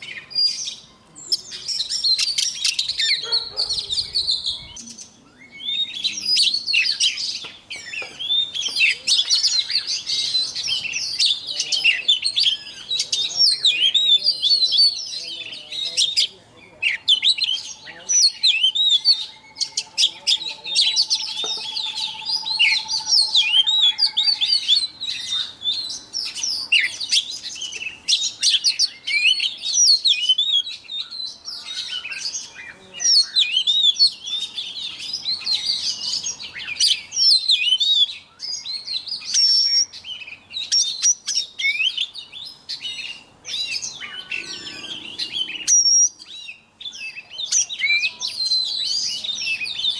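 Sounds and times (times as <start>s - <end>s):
bird singing whistles and trills: 0.0s - 49.9s.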